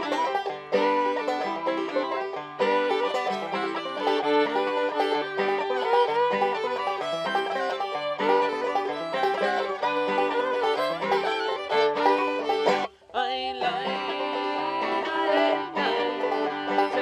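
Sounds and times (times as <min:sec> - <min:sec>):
fiddle playing sliding melody: 0:00.0 - 0:17.0
rolling banjo picking: 0:00.0 - 0:17.0.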